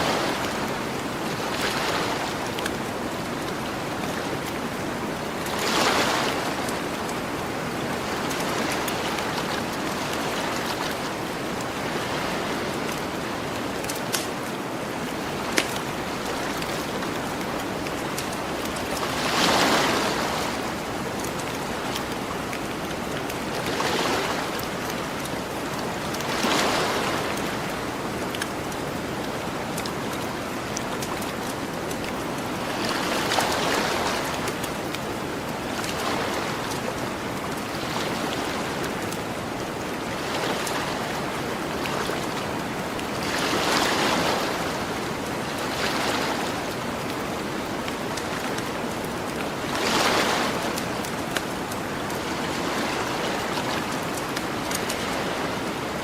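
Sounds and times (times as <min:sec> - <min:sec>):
ocean waves on shore: 0:00.0 - 0:56.0.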